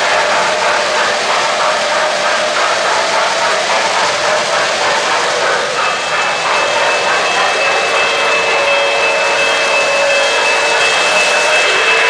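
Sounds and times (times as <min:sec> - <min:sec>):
model train wheels and motors: 0:00.0 - 0:12.0.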